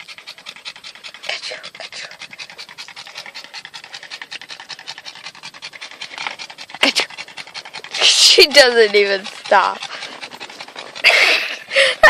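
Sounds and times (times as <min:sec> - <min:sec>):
dog panting fast: 0:00.0 - 0:12.0.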